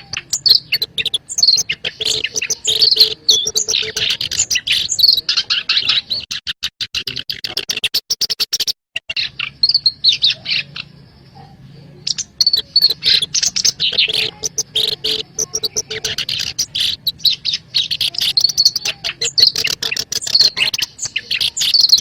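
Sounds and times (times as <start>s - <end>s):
warbler song with clicks and whistles: 0.0s - 11.2s, 12.0s - 22.0s.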